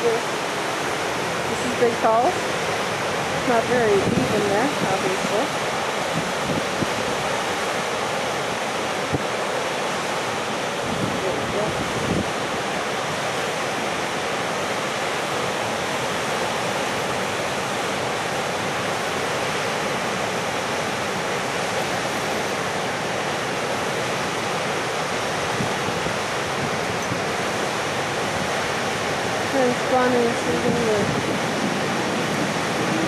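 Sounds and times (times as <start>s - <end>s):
waterfall and rapids rushing: 0.0s - 33.0s.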